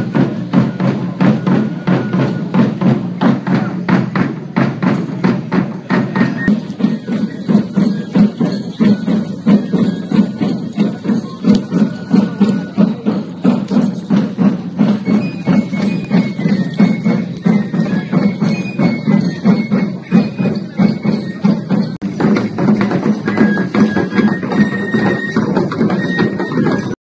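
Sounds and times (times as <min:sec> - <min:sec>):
drumbeat: 0:00.0 - 0:27.0
high flute melody: 0:00.0 - 0:27.0.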